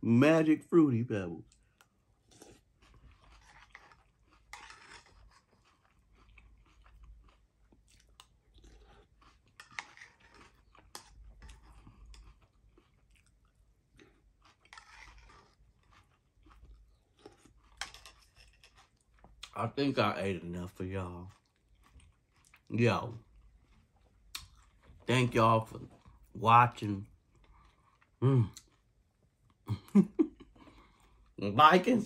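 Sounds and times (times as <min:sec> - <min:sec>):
cereal chewing and crunching: 0:01.0 - 0:32.0.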